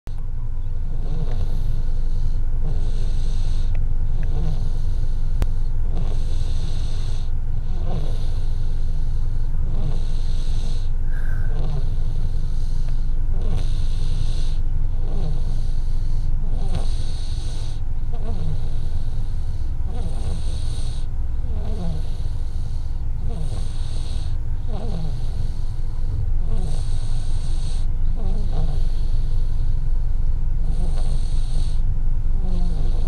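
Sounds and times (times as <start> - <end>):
low rumble: 0.2 - 32.5
soft snoring: 0.6 - 33.0.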